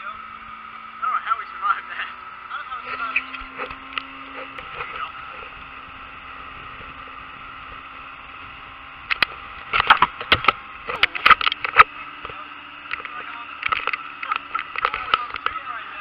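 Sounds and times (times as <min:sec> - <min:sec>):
motorboat engine hum: 0:00.0 - 0:16.0.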